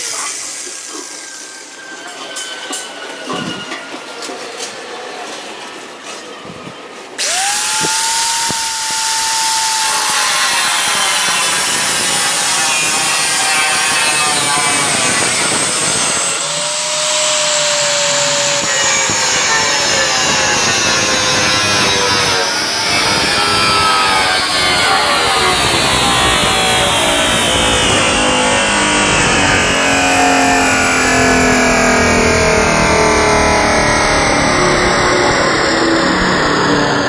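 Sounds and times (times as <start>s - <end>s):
power grinder grinding metal: 7.2s - 37.0s.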